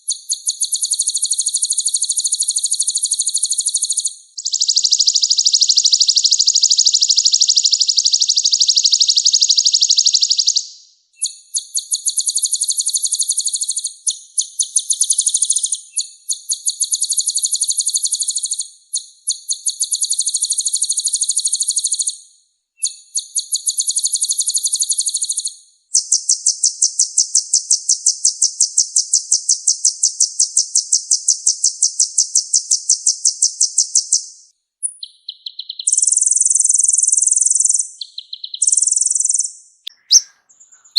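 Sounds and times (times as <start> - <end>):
bird singing fast trills: 0.0 - 40.9.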